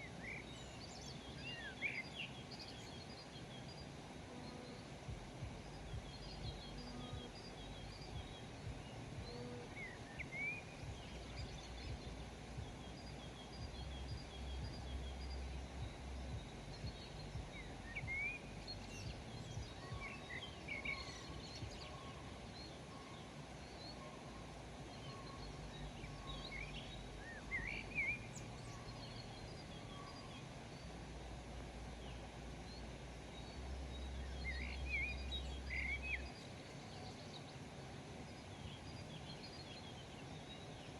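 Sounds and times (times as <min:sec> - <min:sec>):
low countryside rumble: 0:00.0 - 0:40.9
small birds chirping: 0:00.0 - 0:40.9.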